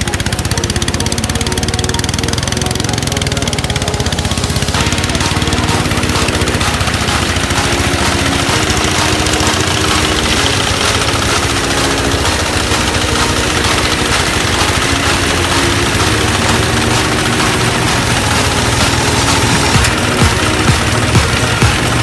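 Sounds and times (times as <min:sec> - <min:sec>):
small engine running steadily: 0:00.0 - 0:22.0.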